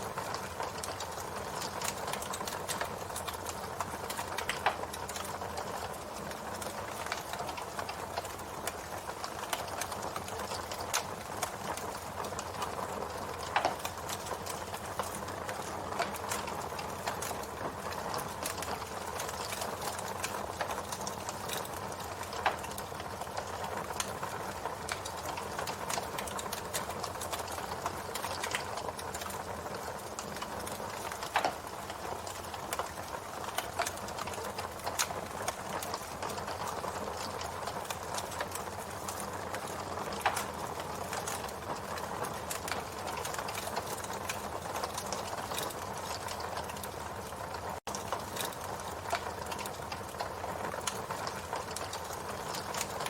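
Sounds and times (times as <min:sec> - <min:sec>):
campfire flames hissing: 0:00.0 - 0:53.0
fire crackling and popping: 0:00.0 - 0:53.0.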